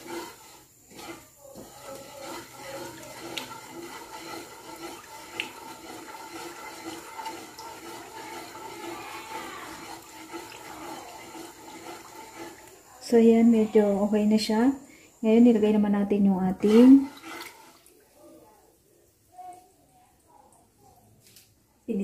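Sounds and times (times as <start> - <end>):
syrup simmering in a wok: 0.0 - 22.0.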